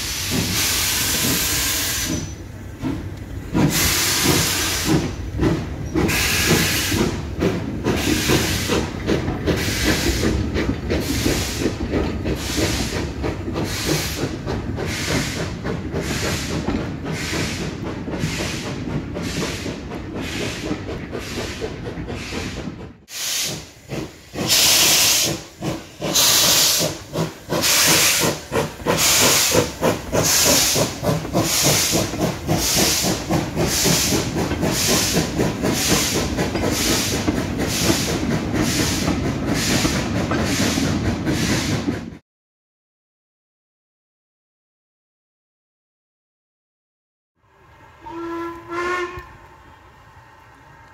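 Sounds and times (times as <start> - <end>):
steam locomotive chuffing: 0.0 - 42.2.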